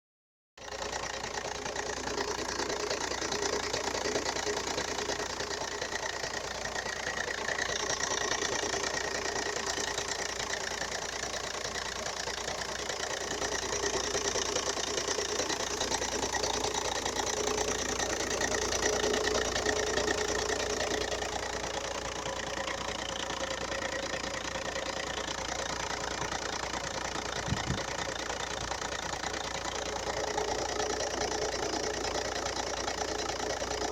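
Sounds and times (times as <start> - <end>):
diesel engine knocking: 0.6 - 33.9.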